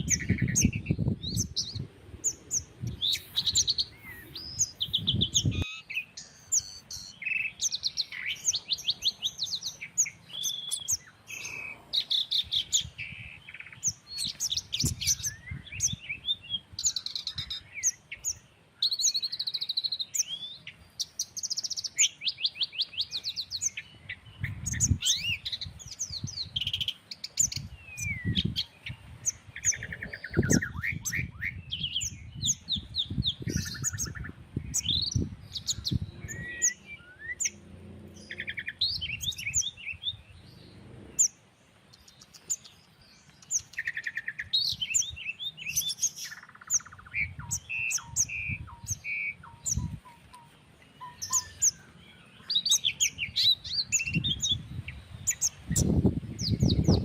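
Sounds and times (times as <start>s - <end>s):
low rumble of breeze: 0.0s - 57.0s
songbirds chirping: 0.0s - 57.0s.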